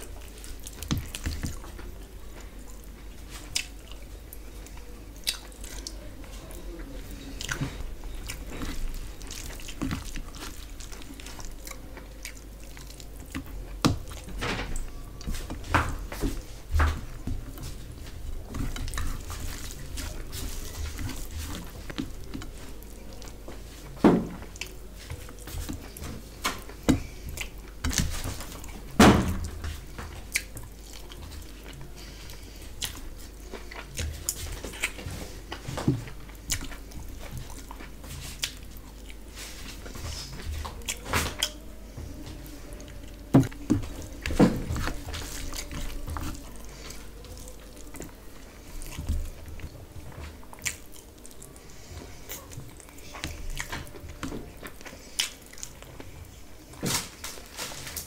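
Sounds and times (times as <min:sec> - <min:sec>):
wet chewing and mouth smacks: 0:00.0 - 0:28.9, 0:29.8 - 0:56.4.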